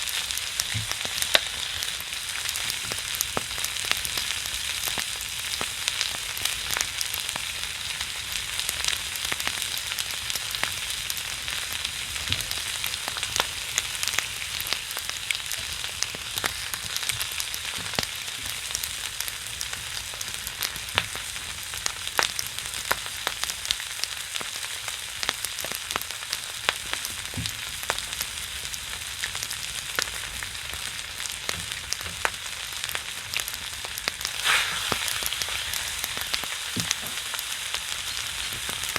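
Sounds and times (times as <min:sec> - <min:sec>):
pork belly sizzling on a griddle: 0:00.0 - 0:38.9.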